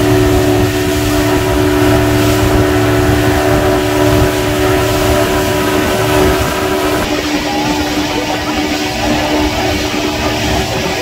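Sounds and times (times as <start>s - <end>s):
outboard motor running: 0.0s - 11.0s
water rushing past hull: 0.0s - 11.0s.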